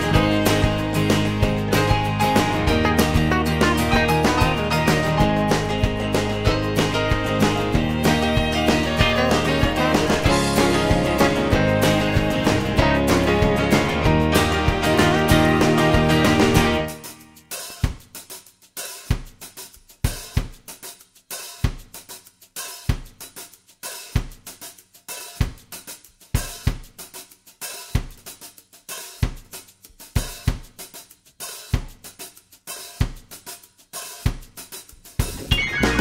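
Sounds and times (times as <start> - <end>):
snare and hi-hat hits: 0.0 - 36.0.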